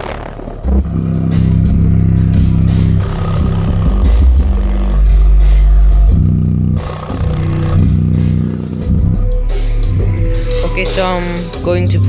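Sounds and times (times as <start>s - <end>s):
deep bass note: 0.0s - 12.0s
loud music with deep bass: 0.0s - 12.0s.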